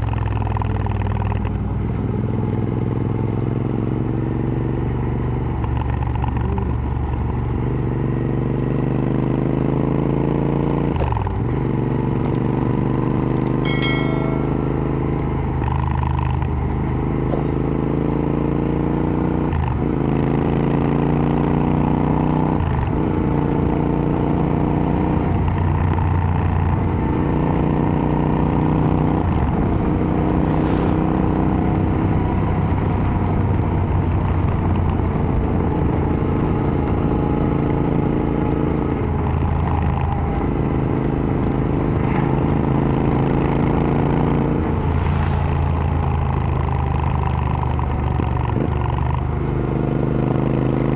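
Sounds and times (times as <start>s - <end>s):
motorcycle engine on the road: 0.0s - 50.9s.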